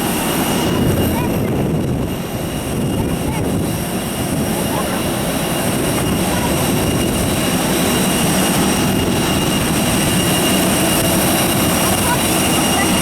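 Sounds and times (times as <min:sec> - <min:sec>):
jet engine rumble: 0:00.0 - 0:13.0
jet turbine whine: 0:00.0 - 0:13.0.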